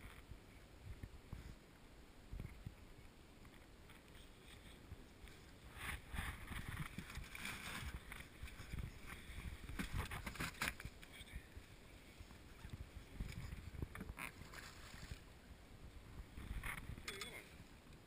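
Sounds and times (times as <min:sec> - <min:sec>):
rustling and water splashing: 0:00.0 - 0:18.0
wind rumbling on microphone: 0:00.0 - 0:18.0.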